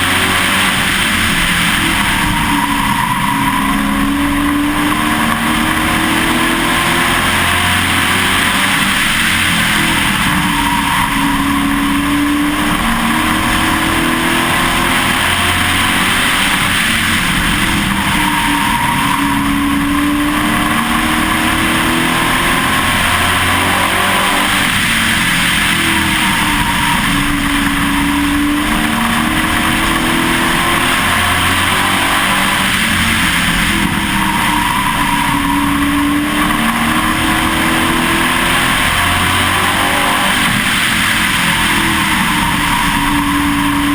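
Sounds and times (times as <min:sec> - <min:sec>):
race engine revving: 0:00.0 - 0:43.9
wind and road noise: 0:00.0 - 0:43.9.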